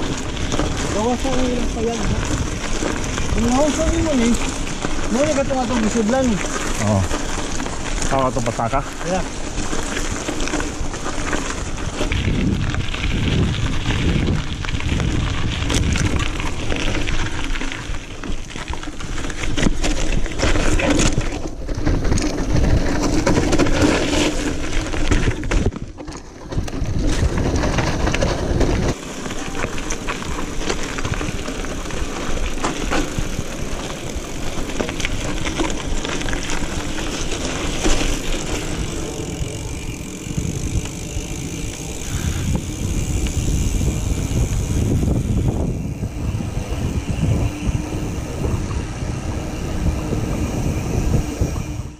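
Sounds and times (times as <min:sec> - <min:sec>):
bike rattling: 0:00.0 - 0:51.9
bike tyres crunching over dirt: 0:00.0 - 0:51.9
rumble across microphone: 0:00.0 - 0:51.9.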